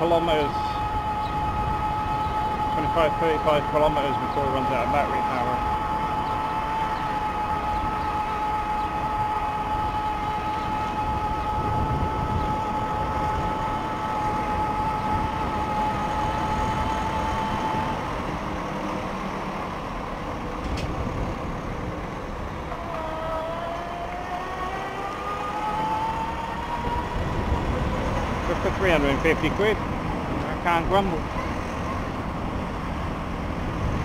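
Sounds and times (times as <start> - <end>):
electric bike motor whining: 0.0 - 34.0
road rumble: 0.0 - 34.0
wind: 0.0 - 34.0.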